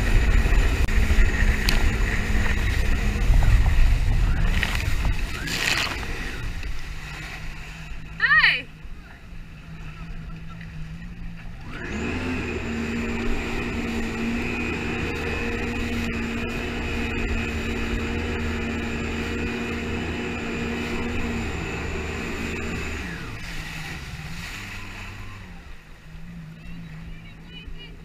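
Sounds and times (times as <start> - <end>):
jet ski engine whining: 0.0 - 28.0.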